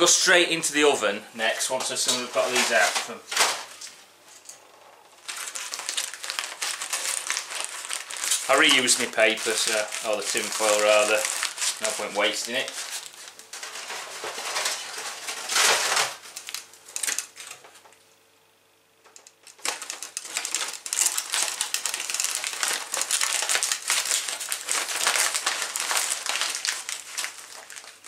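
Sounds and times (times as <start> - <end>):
aluminium foil crinkling: 1.8 - 17.8, 19.1 - 28.0.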